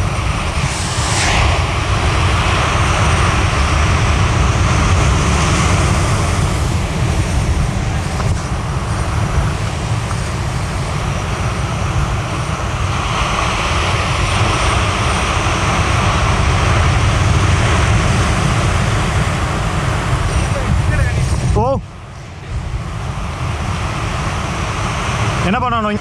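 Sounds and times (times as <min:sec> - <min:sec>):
surf washing against rocks: 0:00.0 - 0:26.0
wind buffeting microphone: 0:00.0 - 0:26.0.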